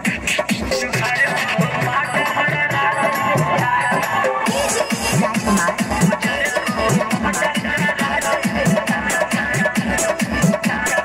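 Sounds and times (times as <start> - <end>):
electronic dance music: 0.0 - 11.0
heavy bass beat: 0.0 - 11.0.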